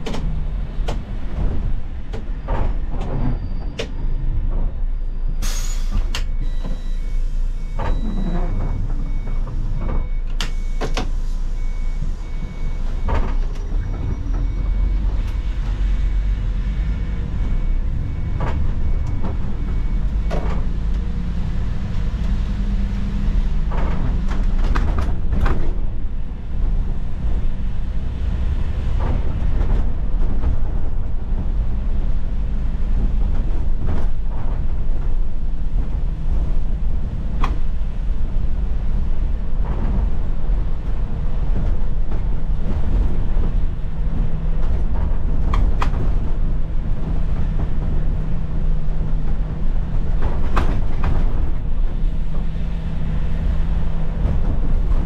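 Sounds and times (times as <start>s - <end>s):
interior rattles and clicks: 0.0s - 5.0s, 12.8s - 15.8s, 17.6s - 55.0s
bus engine and road rumble: 0.0s - 55.0s.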